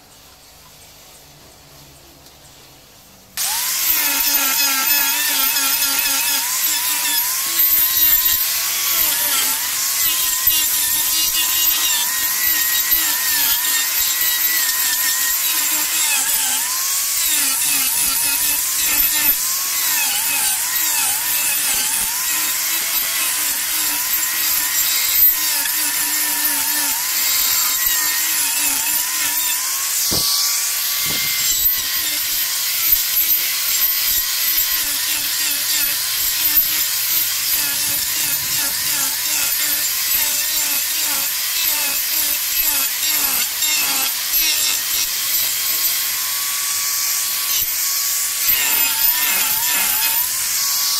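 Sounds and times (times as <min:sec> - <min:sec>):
electric grinder whining: 0:03.4 - 0:50.9
grinding hiss: 0:03.4 - 0:50.9.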